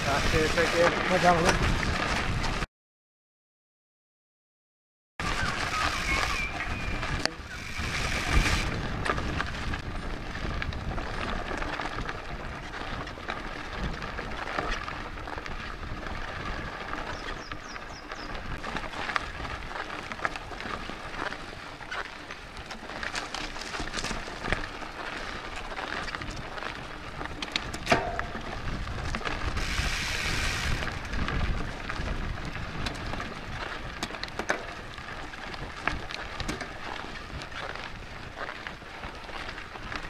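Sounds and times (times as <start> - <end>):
bike tyres crunching on gravel: 0.0 - 2.7, 5.2 - 40.0
bike clattering over bumps: 7.2 - 40.0.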